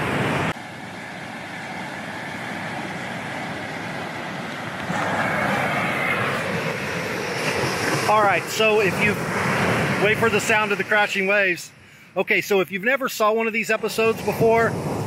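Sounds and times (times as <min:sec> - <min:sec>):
waves breaking on beach: 0:00.0 - 0:11.8, 0:13.7 - 0:15.0.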